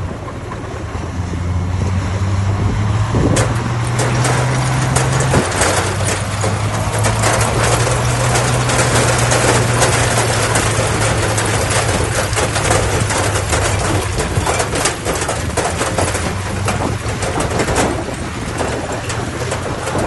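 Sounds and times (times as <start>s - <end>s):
heavy diesel engine running: 0.0s - 20.0s
dense clatter of clicks: 3.0s - 20.0s.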